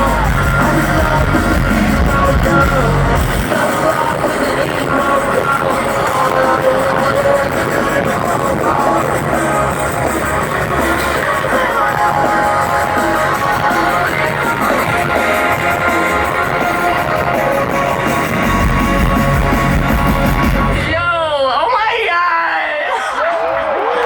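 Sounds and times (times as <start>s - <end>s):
live rock music: 0.0s - 22.0s.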